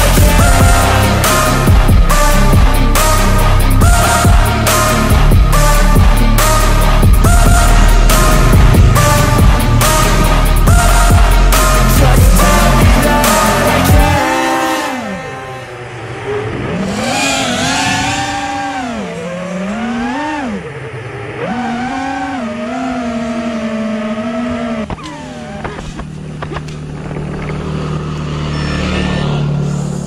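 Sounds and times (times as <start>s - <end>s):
drone motors whining: 0.0s - 30.0s
motorcycle engine hum: 0.0s - 30.0s.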